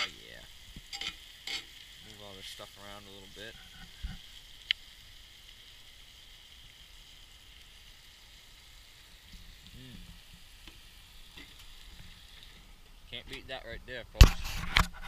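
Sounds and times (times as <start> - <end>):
vegetables sizzling in a pan: 0.0 - 14.5.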